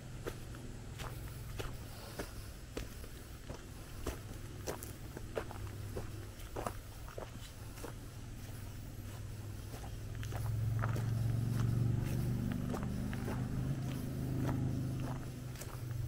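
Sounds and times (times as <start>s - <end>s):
footsteps on trail: 0.0s - 16.0s
passing motor vehicle engine hum: 0.0s - 16.0s.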